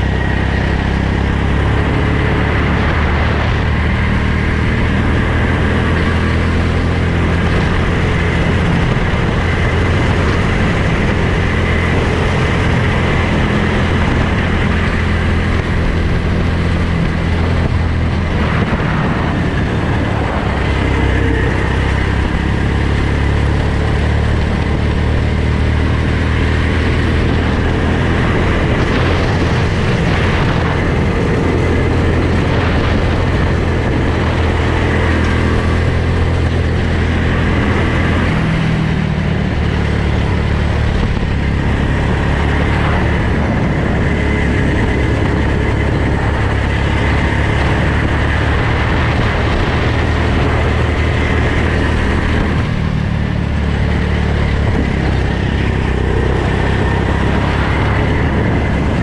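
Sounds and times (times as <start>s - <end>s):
go-kart engine running: 0.0s - 59.0s.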